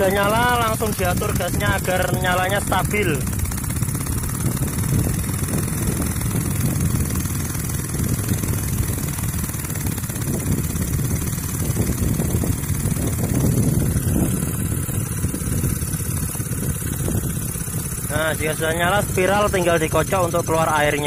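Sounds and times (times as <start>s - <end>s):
small pump engine running: 0.0s - 21.0s.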